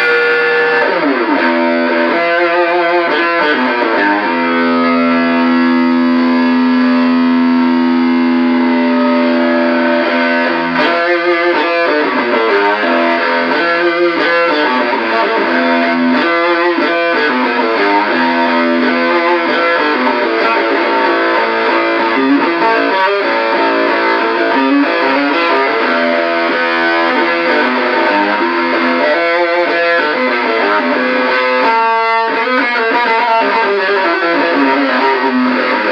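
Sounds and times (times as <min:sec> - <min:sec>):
fuzz-distorted electric guitar: 0:00.0 - 0:35.9.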